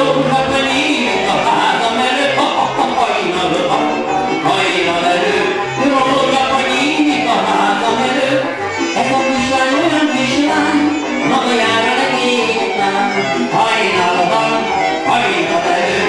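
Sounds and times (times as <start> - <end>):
folk band with violins: 0.0 - 16.0
man singing: 0.0 - 16.0.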